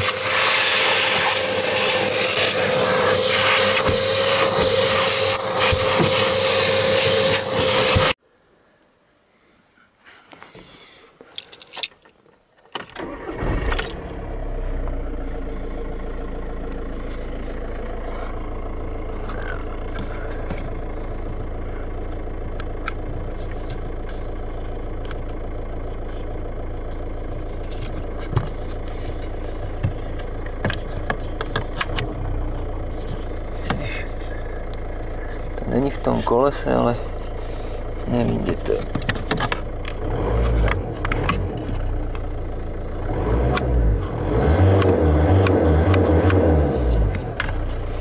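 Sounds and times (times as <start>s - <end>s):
car engine starting and idling: 0.0s - 8.2s, 12.7s - 48.0s.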